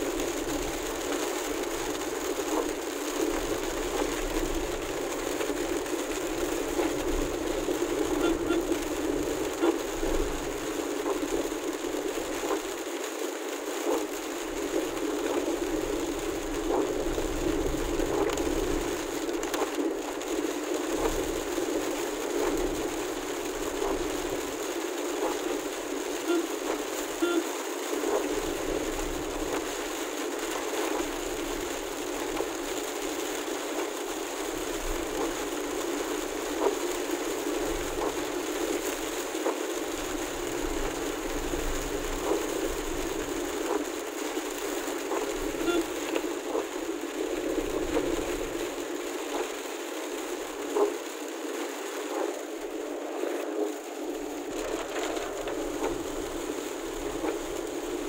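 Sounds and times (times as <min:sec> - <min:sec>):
steady rain: 0:00.0 - 0:58.0
tyre noise on wet road: 0:00.0 - 0:58.0.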